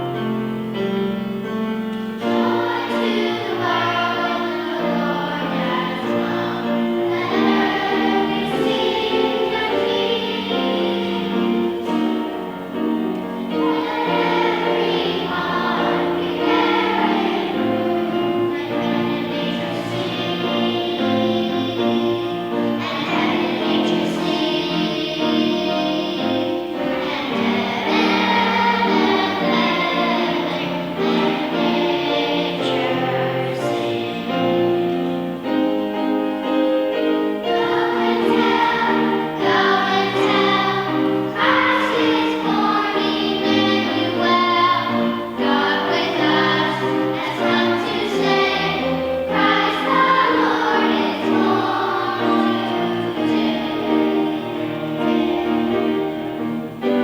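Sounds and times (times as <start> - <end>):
choir singing slowly: 0.0 - 57.0.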